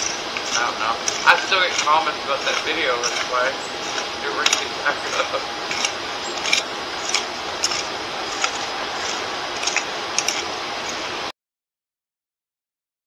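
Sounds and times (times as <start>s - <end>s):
hoe scraping dry soil: 0.0s - 11.3s.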